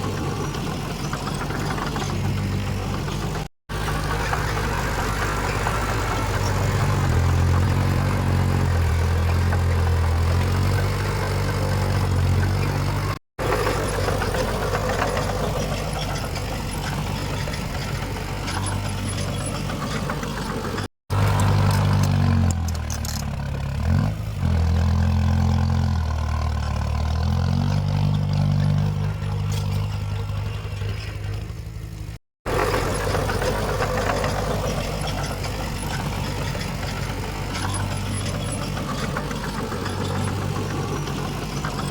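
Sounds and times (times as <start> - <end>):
heavy machinery diesel engines: 0.0 - 41.9.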